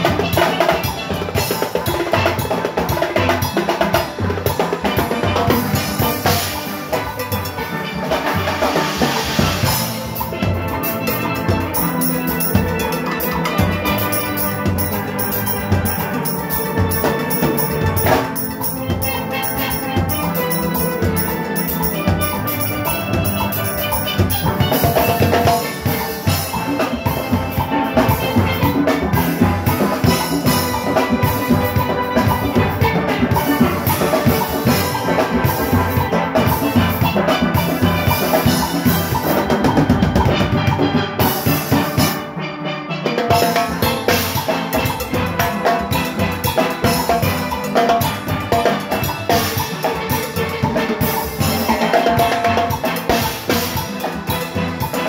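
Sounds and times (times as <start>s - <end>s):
drum kit and cymbals beat: 0.0s - 55.0s
steelpans playing: 3.6s - 55.0s.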